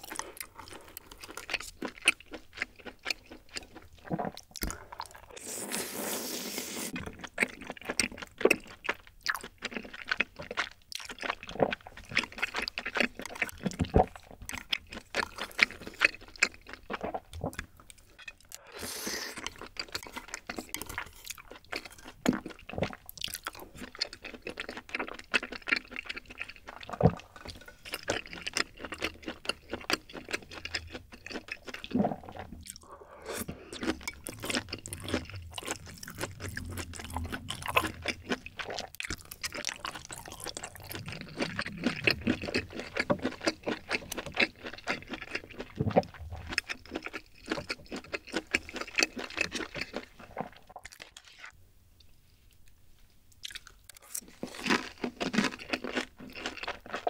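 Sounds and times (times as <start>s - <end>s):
close-miked chewing: 0.0s - 5.6s, 6.8s - 57.0s.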